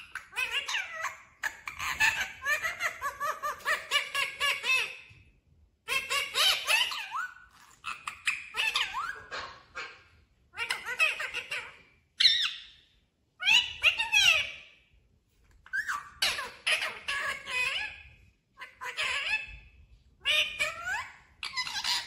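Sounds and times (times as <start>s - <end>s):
parakeet chattering and squawking: 0.0s - 5.2s, 5.8s - 14.8s, 15.6s - 22.0s.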